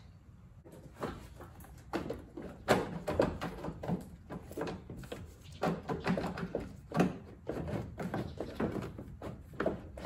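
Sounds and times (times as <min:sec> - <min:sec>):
plastic housing knocking and rattling: 0:01.8 - 0:10.0.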